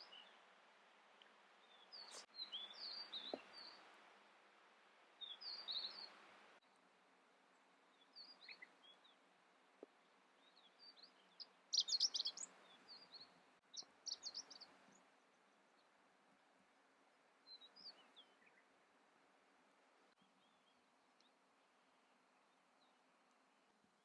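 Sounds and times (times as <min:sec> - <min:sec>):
faint background hiss: 0:00.0 - 0:24.0
songbird chirping: 0:00.0 - 0:24.0.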